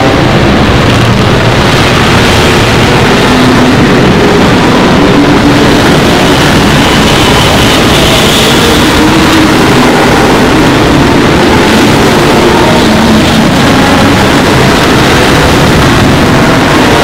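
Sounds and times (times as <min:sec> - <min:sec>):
dense noisy electronic rumble: 0:00.0 - 0:17.0.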